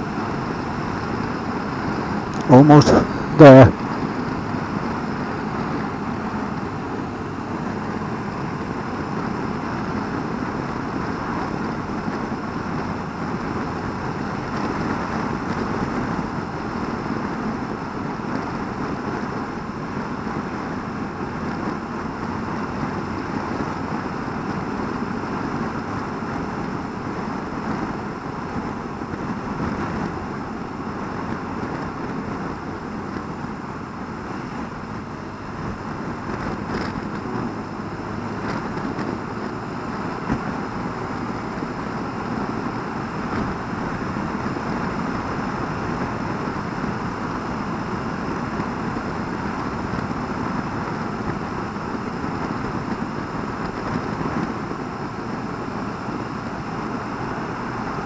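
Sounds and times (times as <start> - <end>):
motorcycle cruising: 0.0 - 58.0.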